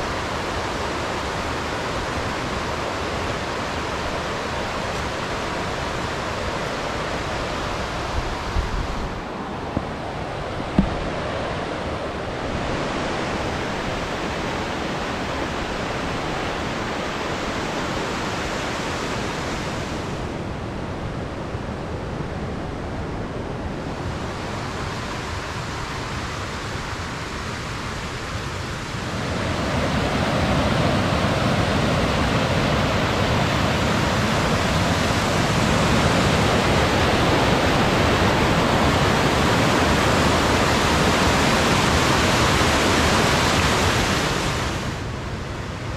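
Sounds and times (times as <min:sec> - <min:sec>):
river rushing over rapids: 0:00.0 - 0:45.9.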